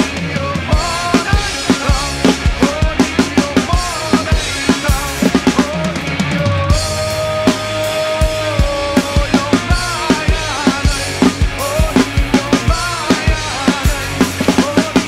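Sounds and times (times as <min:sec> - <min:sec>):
drum kit playing: 0:00.0 - 0:15.0
rock song with held note: 0:00.0 - 0:15.0.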